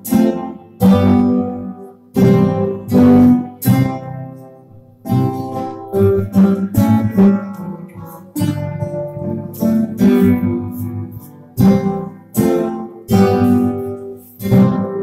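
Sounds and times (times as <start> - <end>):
acoustic guitars strumming chords: 0.0 - 15.0.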